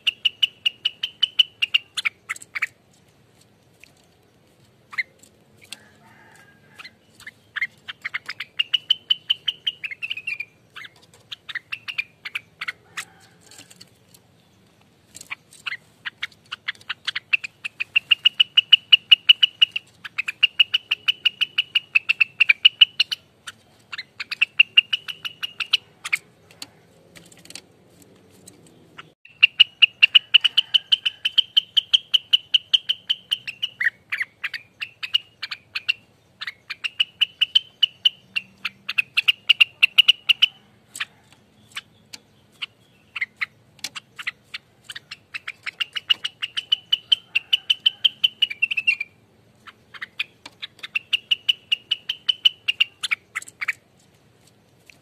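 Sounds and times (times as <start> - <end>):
songbird singing rapid sharp notes: 0.0 - 55.0.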